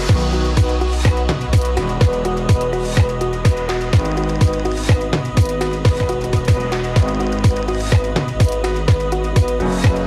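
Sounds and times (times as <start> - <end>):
deep kick drum: 0.0 - 10.0
electronic music: 0.0 - 10.0.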